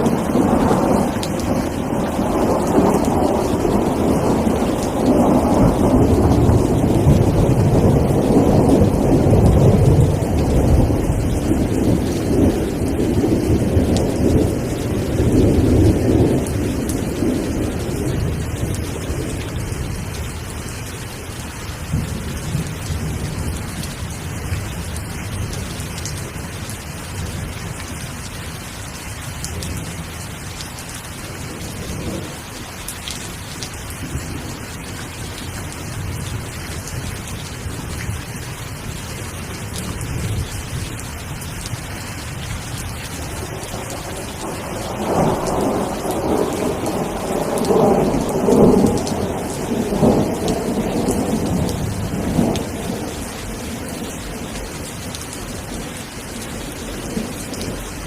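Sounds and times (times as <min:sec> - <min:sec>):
thunder rumbling: 0:00.0 - 0:27.8, 0:31.1 - 0:32.7, 0:39.4 - 0:58.0
steady rain falling: 0:00.0 - 0:58.0.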